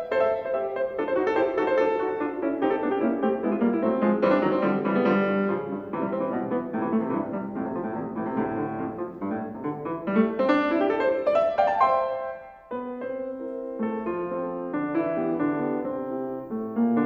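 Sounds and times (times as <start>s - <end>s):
solo classical piano: 0.0s - 17.0s.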